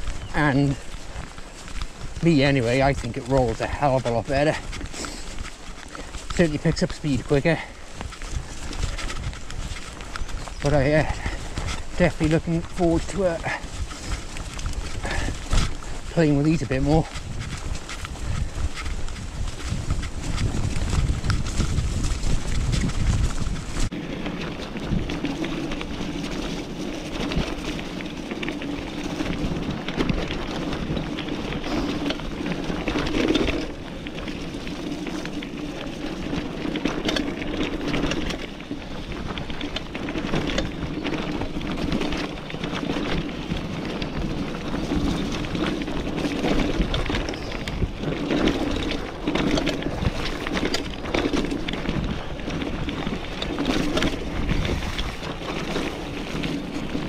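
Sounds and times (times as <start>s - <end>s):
bicycle rattling over bumps: 0.0s - 57.0s
bicycle tyre and drivetrain noise: 0.0s - 57.0s
wind buffeting microphone: 0.0s - 57.0s.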